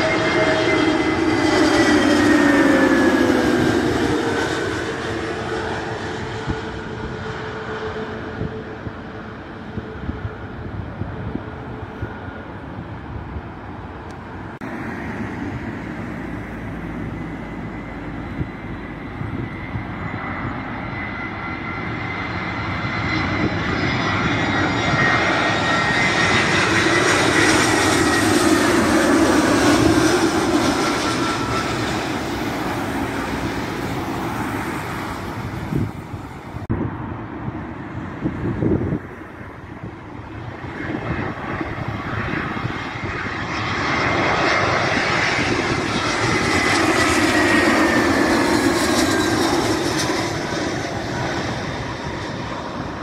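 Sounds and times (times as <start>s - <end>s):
jet airliner flying overhead: 0.0s - 53.0s
jet engine whine: 0.0s - 53.0s.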